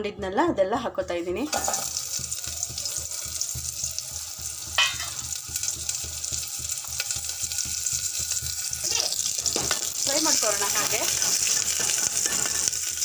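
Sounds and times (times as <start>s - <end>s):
food sizzling in hot oil: 1.4s - 13.0s.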